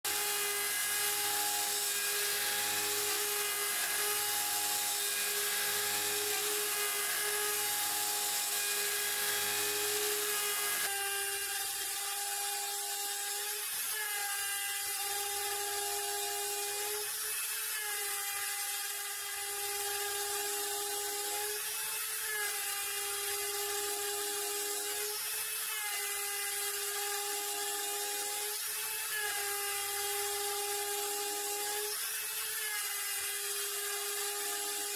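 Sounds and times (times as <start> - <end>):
router spindle milling metal: 0.1 - 31.7.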